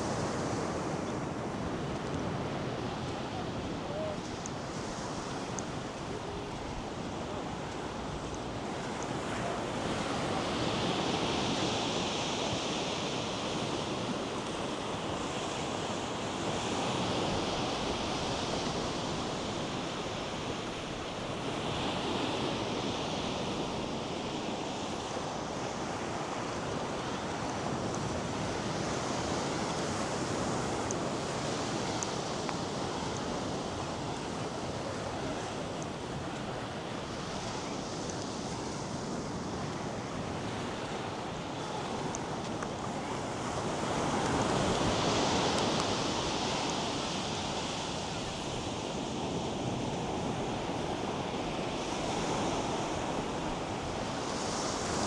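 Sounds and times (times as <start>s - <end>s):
surf washing on beach: 0.0s - 55.0s.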